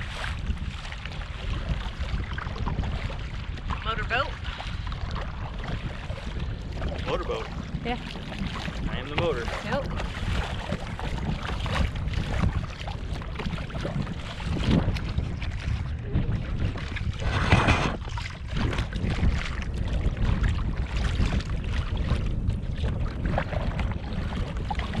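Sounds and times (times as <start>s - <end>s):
water lapping and splashing: 0.0s - 25.0s
wind buffeting microphone: 0.0s - 25.0s.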